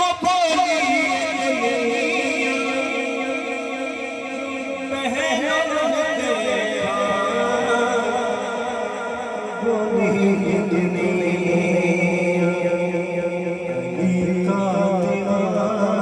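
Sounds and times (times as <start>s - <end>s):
man singing long notes: 0.0s - 16.0s.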